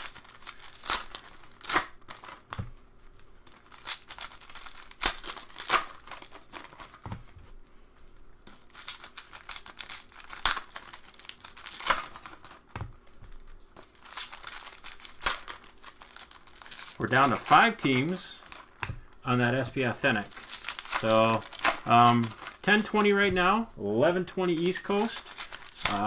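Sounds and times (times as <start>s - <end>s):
wrappers ripped and crinkled: 0.0s - 2.6s, 3.4s - 7.3s, 8.5s - 19.2s, 20.1s - 23.2s, 24.5s - 26.0s.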